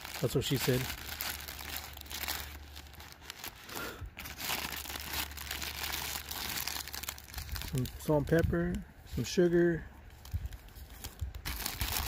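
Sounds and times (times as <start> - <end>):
plastic pouch crinkling: 0.0 - 8.8, 10.1 - 12.0.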